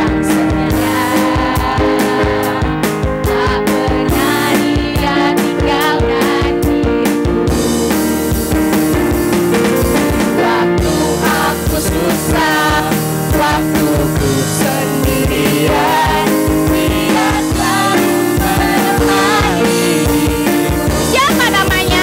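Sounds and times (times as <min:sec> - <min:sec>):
voices singing: 0:00.0 - 0:08.3, 0:09.9 - 0:22.0
band accompaniment: 0:00.0 - 0:22.0
steady drum beat: 0:00.0 - 0:22.0.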